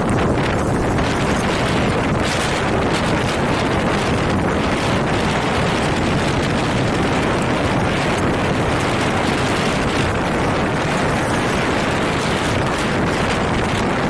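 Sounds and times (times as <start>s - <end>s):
strong wind rushing: 0.0s - 14.0s.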